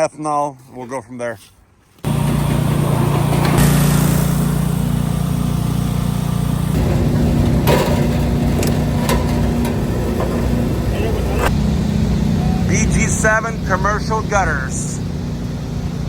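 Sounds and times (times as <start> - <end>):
small gasoline engine running: 2.0 - 16.0.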